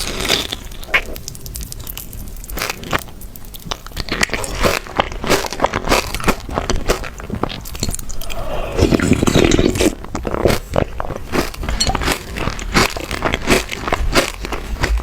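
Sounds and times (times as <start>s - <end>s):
chewing chocolate crunches: 0.0s - 15.0s.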